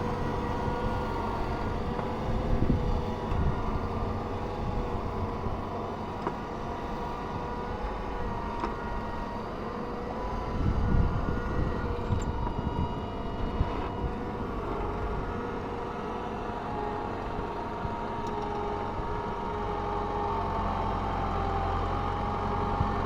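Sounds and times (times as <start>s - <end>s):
tractor diesel engine ploughing: 0.0s - 23.0s.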